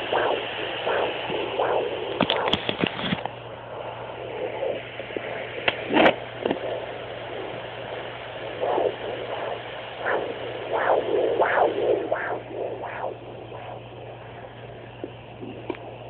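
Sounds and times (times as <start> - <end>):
rhythmic whooshing heartbeat pulse: 0.0 - 16.0
steady electrical hum: 0.0 - 16.0.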